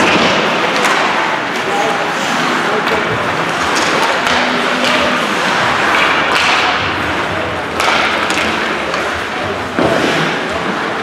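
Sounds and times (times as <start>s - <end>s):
loud background noise: 0.0s - 11.0s.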